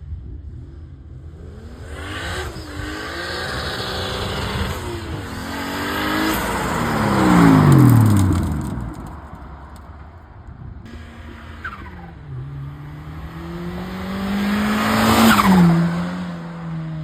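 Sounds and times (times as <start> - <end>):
car accelerating past: 1.3 - 10.2, 10.9 - 17.0.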